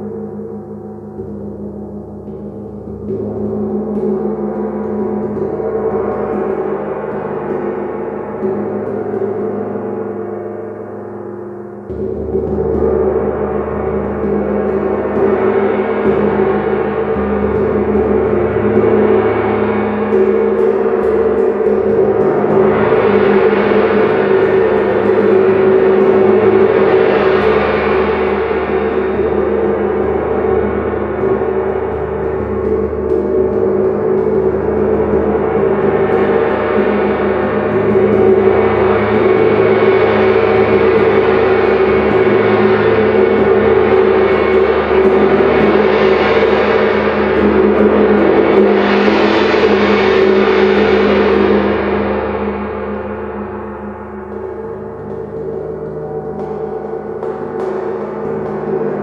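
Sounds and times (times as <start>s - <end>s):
gong played with soft mallets: 11.7s - 59.0s.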